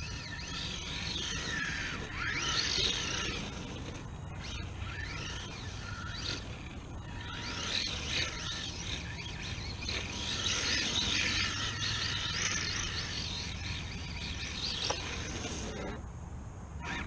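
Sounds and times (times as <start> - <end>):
rc car electric motor whining: 0.0 - 16.0, 16.8 - 17.0.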